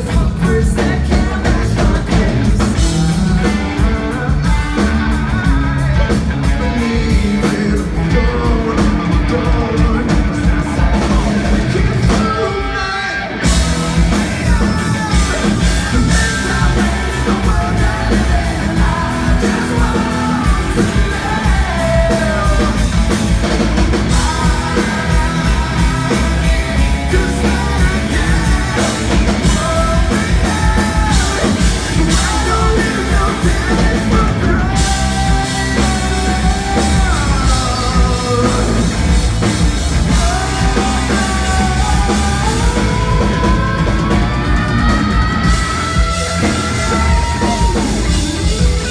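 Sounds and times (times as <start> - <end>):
live band playing: 0.0 - 48.9
person singing: 0.0 - 48.9.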